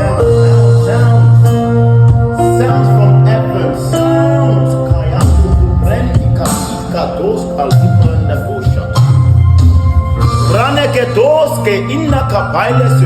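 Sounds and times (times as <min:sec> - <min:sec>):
held keyboard chords: 0:00.0 - 0:13.0
steady bass: 0:00.0 - 0:13.0.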